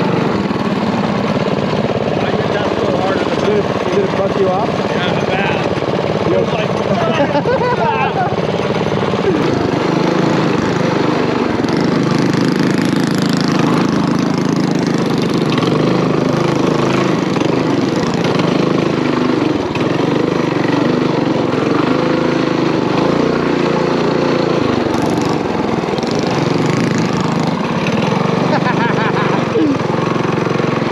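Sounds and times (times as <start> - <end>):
mini bike engine running: 0.0 - 30.9.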